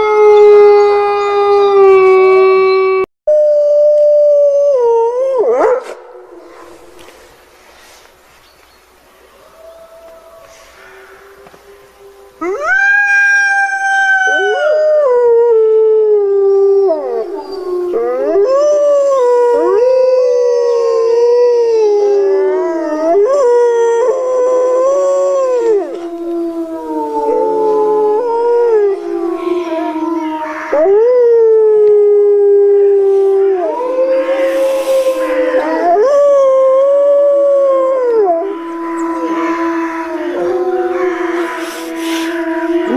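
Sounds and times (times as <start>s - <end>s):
wolves howling: 0.0s - 3.0s, 3.6s - 7.4s, 9.2s - 42.9s.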